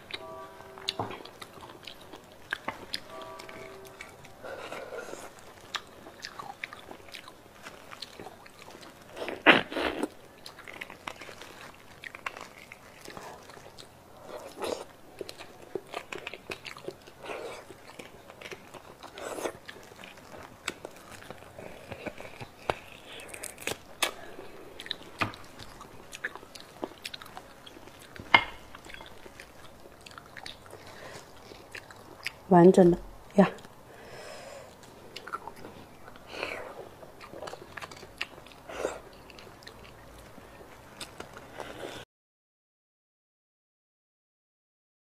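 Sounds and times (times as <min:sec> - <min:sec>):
wet chewing: 0:00.8 - 0:32.5, 0:34.6 - 0:42.0.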